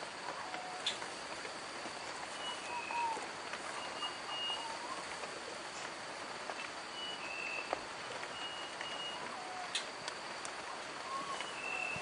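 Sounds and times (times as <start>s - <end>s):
steady forest hiss: 0.0s - 12.0s.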